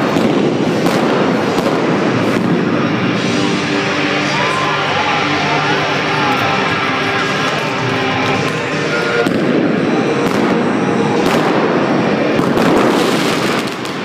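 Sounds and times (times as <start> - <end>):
sharp bangs: 0.0 - 4.3, 5.9 - 14.0
fireworks crackling: 0.0 - 14.0
music: 0.0 - 14.0.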